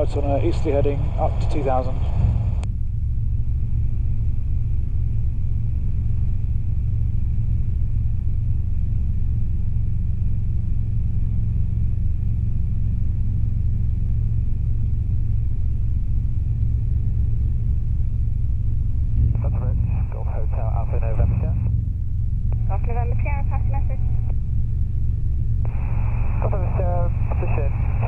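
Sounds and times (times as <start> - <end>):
faint steady whine: 0.0 - 28.0
helicopter rotors rumbling: 0.0 - 28.0.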